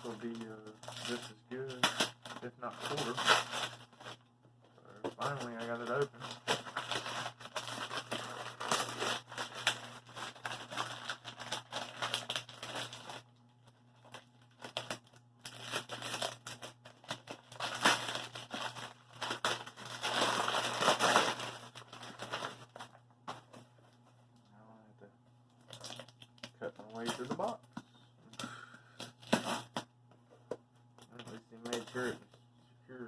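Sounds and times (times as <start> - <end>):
packing material crinkling: 0.0 - 24.0, 25.5 - 28.4, 31.0 - 32.4.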